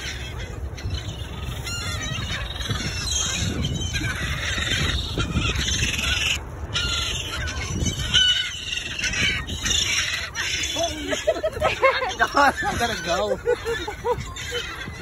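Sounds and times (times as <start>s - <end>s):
gulls calling and squawking: 0.0s - 15.0s.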